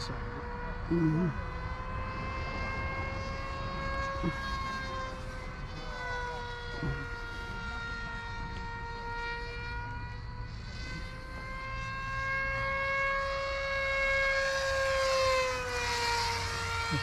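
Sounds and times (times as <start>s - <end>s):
model airplane propeller drone: 0.0s - 17.0s.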